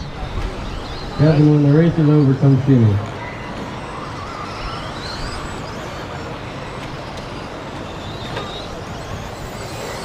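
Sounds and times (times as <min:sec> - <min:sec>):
radio-controlled trucks running: 0:00.0 - 0:10.0
rising motor whine: 0:00.0 - 0:10.0.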